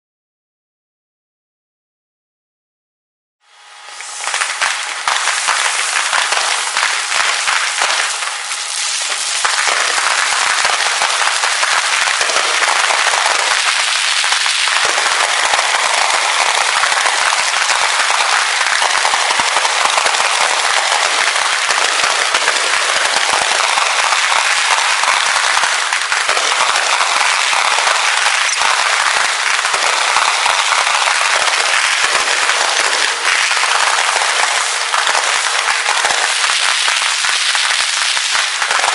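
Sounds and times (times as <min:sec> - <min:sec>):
fireworks crackling and popping: 0:03.9 - 0:38.9.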